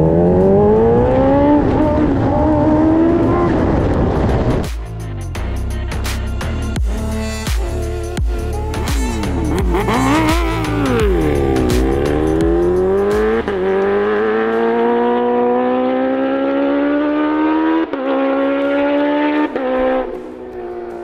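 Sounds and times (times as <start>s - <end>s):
motorcycle engine accelerating: 0.0s - 4.7s, 8.3s - 21.0s.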